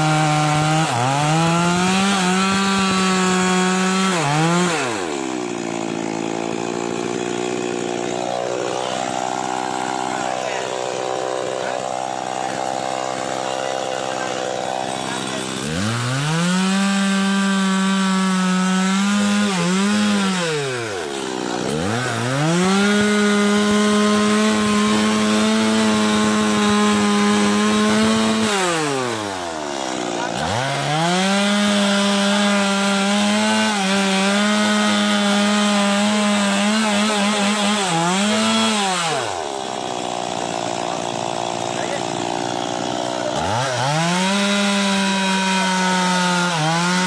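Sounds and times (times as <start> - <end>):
chainsaw cutting tree trunk: 0.0 - 47.0.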